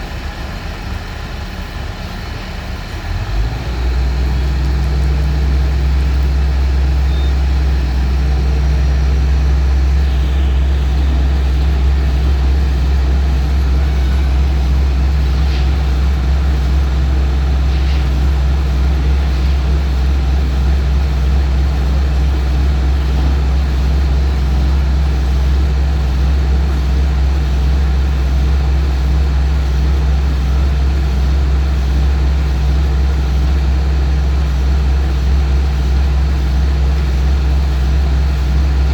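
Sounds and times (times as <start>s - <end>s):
heavy engine humming: 0.0s - 38.9s.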